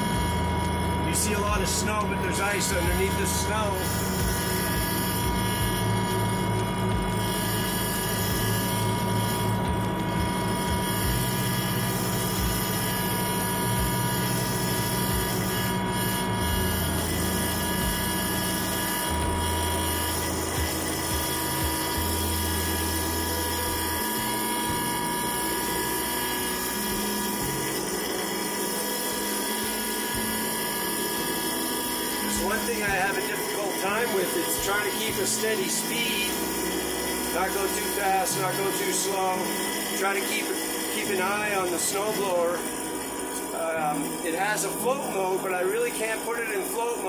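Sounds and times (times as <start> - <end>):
tractor diesel engine running: 0.0 - 46.9
snowblower whine: 0.0 - 47.0.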